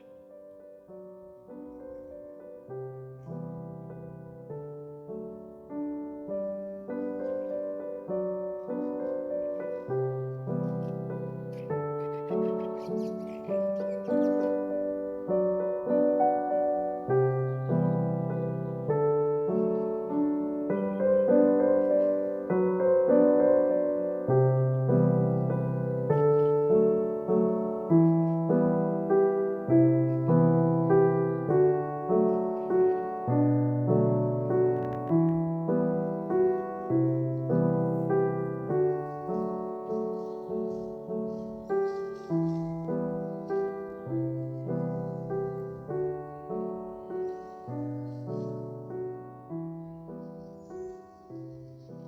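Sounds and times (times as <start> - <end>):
gentle solo piano: 0.0 - 52.0.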